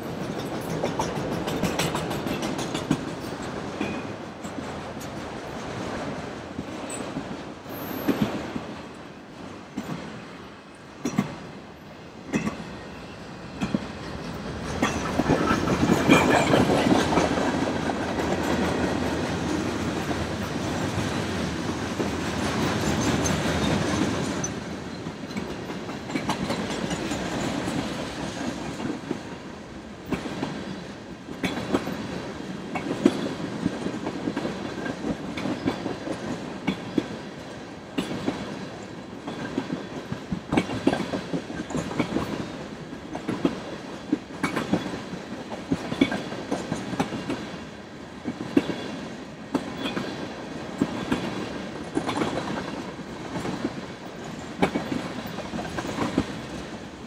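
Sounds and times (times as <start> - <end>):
train wheels clicking over joints: 0.0 - 8.8, 11.0 - 11.5, 12.2 - 57.0
freight train rumble: 0.0 - 57.0.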